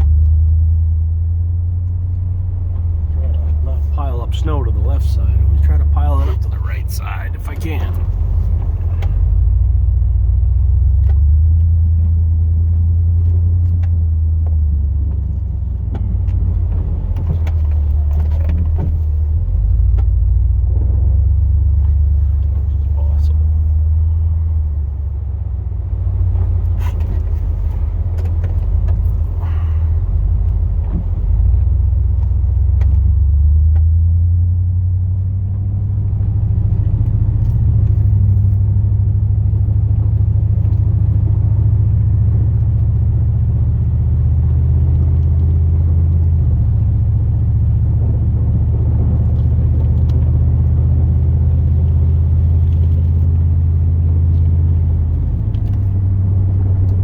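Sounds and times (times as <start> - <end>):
truck engine rumbling: 0.0 - 57.0.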